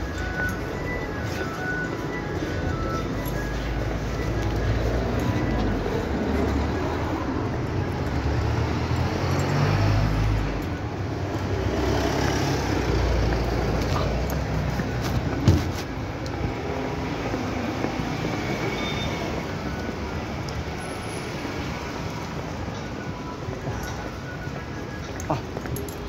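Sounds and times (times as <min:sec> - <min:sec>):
low street rumble: 0:00.0 - 0:26.0.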